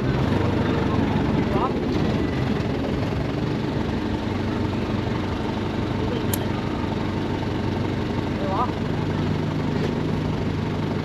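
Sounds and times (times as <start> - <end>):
engine running with low hum: 0.0 - 11.0.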